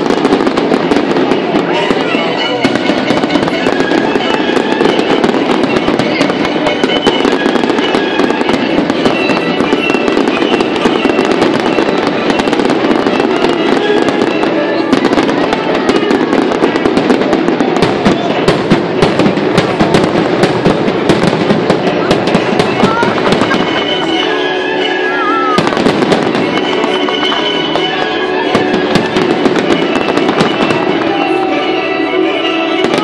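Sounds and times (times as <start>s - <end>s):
fireworks bursting and crackling: 0.0s - 33.0s
music: 0.0s - 33.0s.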